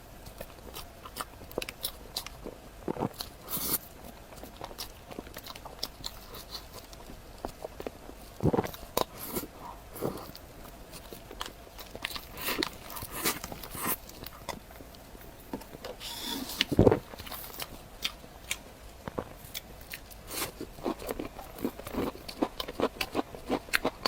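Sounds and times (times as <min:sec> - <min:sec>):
person chewing: 0:00.2 - 0:24.0.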